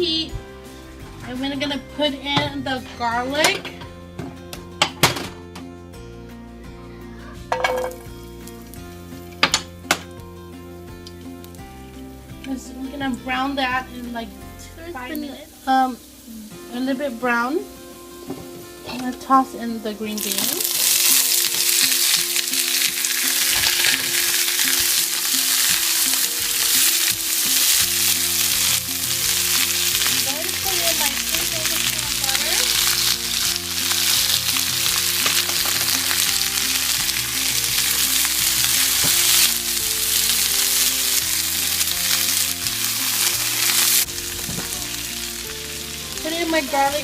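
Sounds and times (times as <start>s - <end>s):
beans frying in a hot pan: 7.5s - 47.0s.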